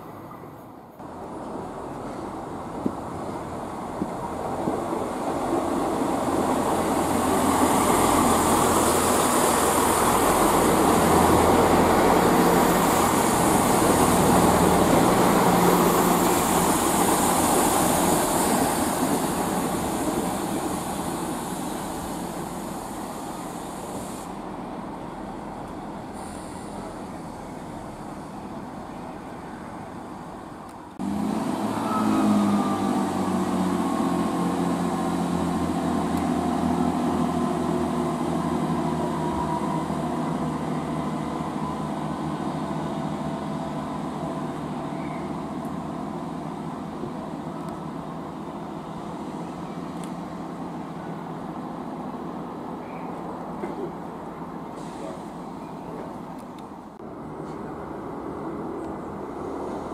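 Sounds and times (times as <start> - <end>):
diesel train engine: 0.0 - 59.9.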